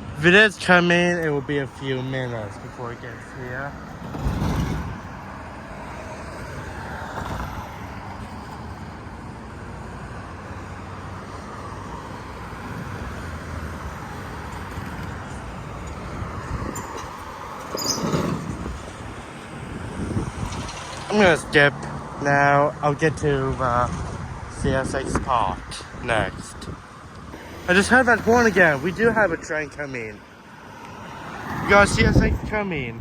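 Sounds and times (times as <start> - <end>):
road traffic: 0.0 - 33.0
wind: 0.0 - 33.0.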